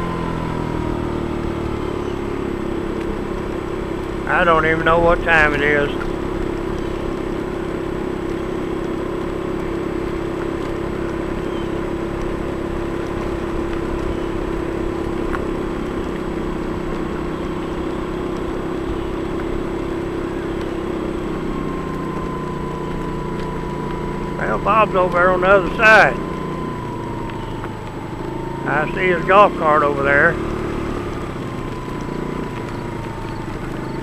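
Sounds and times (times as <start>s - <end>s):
scooter engine droning: 0.0s - 34.0s.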